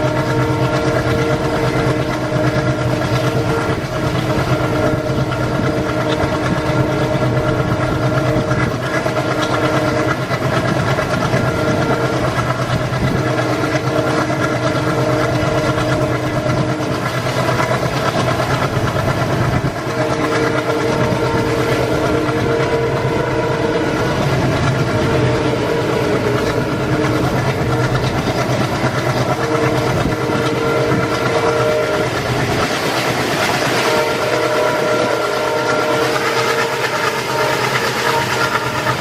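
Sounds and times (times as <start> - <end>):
train horn blasts: 0.0 - 39.0
train running with low hum: 0.0 - 39.0.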